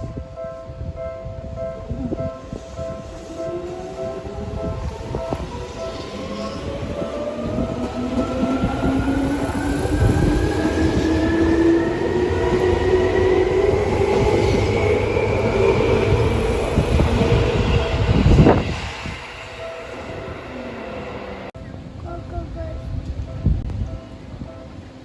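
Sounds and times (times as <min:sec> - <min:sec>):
wheels rumbling on rail: 0:01.8 - 0:25.0.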